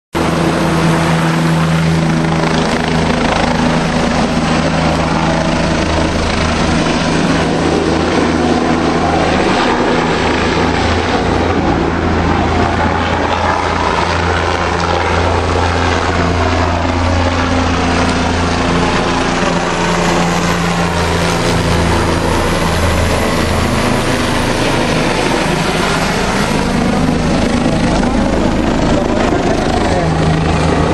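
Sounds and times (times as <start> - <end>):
helicopter circling overhead: 0.2 - 30.9.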